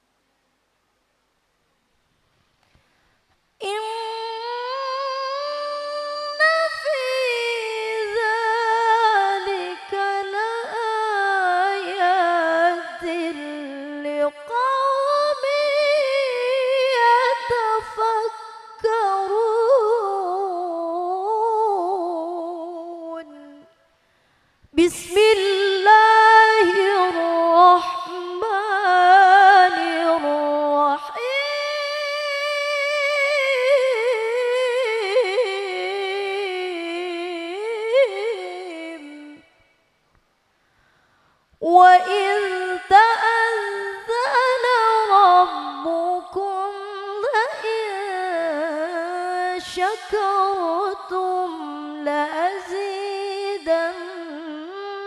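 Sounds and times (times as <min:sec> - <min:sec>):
woman reciting melodically: 0:03.6 - 0:23.8, 0:24.7 - 0:39.6, 0:41.6 - 0:55.0.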